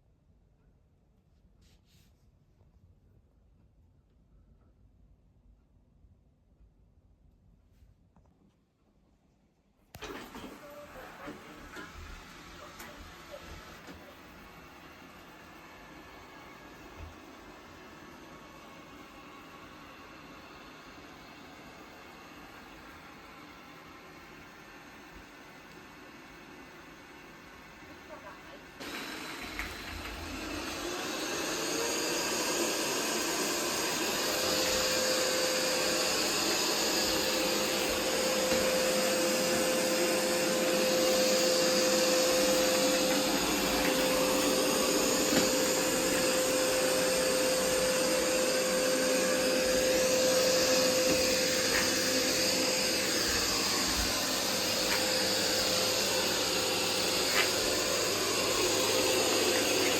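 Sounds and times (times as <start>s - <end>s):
robot vacuum running: 10.0s - 59.9s.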